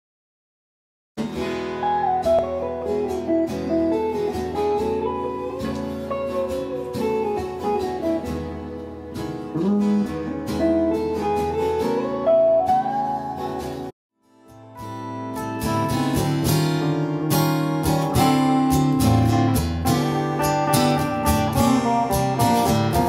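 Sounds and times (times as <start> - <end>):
acoustic and electric guitar music: 1.2 - 23.0.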